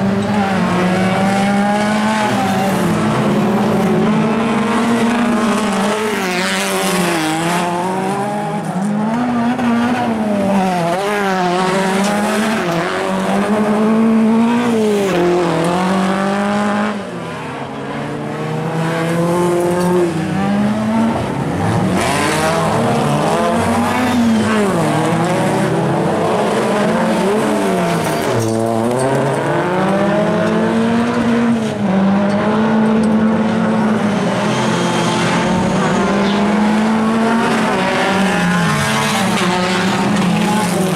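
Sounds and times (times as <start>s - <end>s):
racing car engines revving: 0.0s - 40.9s.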